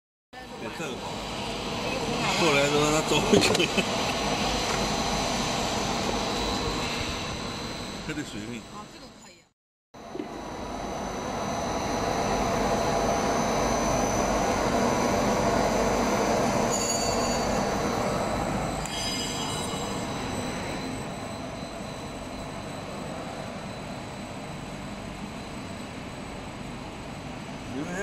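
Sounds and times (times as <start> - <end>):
conveyor dryer mechanical noise: 0.4 - 9.0, 10.0 - 28.0
faint high whines: 0.4 - 28.0.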